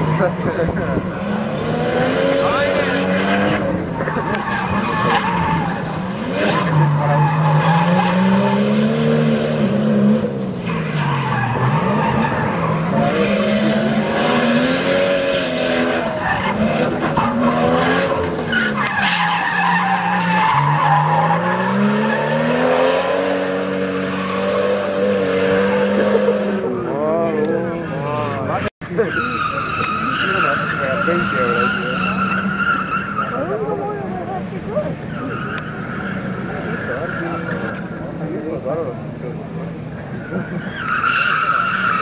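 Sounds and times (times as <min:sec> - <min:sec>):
car engine revving: 0:00.0 - 0:42.0
tyres skidding on tarmac: 0:00.0 - 0:42.0.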